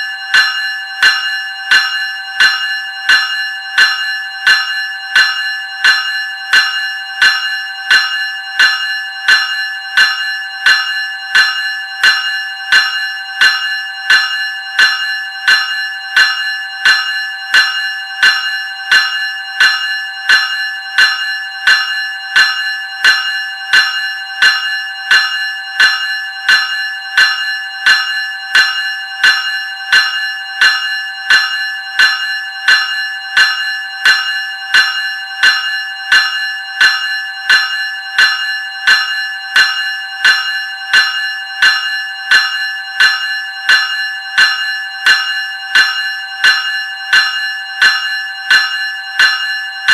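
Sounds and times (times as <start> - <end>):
electric bell ringing: 0.0 - 49.9.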